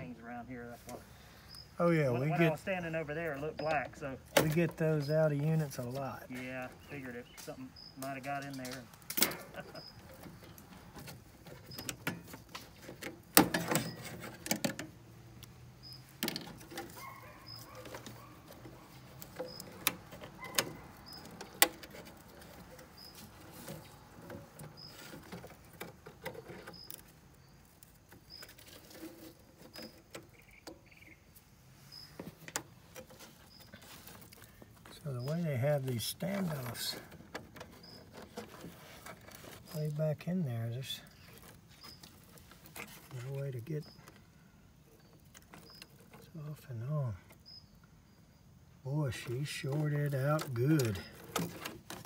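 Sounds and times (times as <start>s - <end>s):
connectors clicking and scraping: 0.8s - 48.0s, 48.8s - 52.0s
wire harness rustling: 3.3s - 30.5s, 31.3s - 44.3s, 48.9s - 52.0s.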